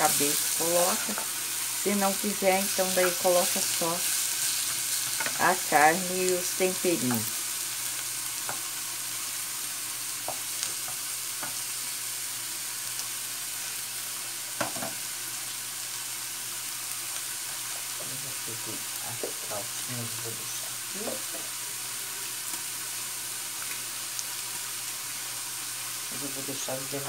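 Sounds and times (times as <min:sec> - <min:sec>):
meat sizzling in a pan: 0:00.0 - 0:27.0.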